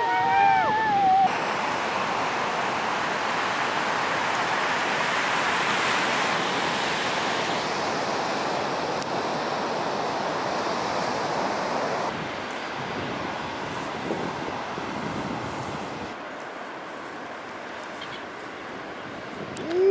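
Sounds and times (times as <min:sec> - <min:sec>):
waves breaking: 0:00.0 - 0:19.9.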